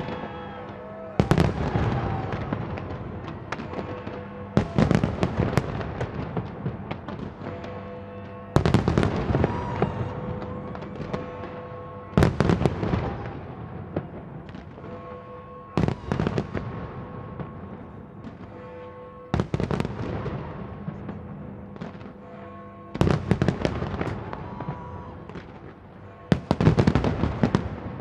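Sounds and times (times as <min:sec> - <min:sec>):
fireworks bursting and crackling: 0:00.0 - 0:15.1, 0:15.8 - 0:18.7, 0:19.3 - 0:22.2, 0:23.0 - 0:28.0.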